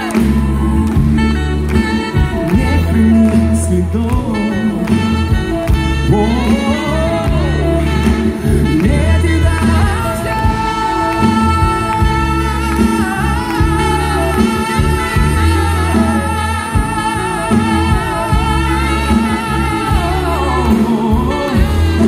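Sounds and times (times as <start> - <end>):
live band playing: 0.0 - 22.0
man singing long notes: 2.3 - 22.0.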